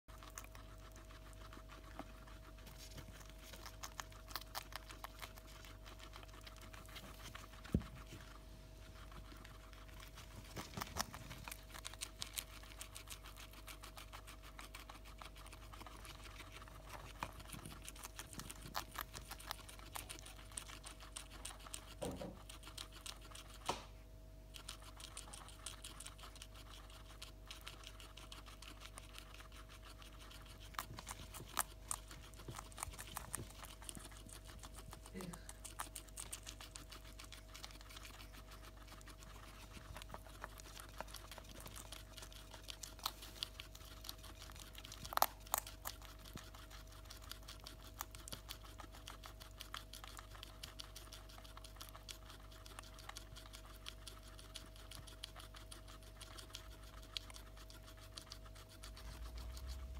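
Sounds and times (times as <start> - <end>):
faint steady hum: 0.0 - 59.9
guinea pigs chewing vegetables: 0.0 - 59.9.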